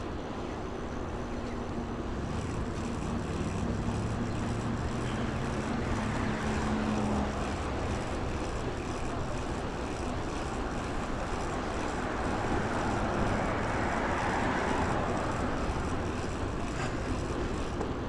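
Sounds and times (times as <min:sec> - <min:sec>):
vehicle low hum: 0:00.0 - 0:18.0
wind and road rush: 0:00.0 - 0:18.0.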